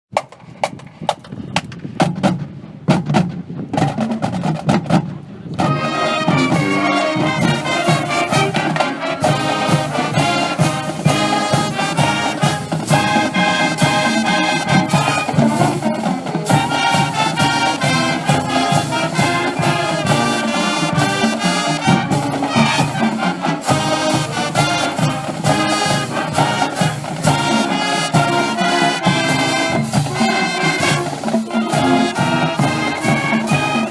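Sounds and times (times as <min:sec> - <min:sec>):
brass band playing: 0:05.2 - 0:33.9.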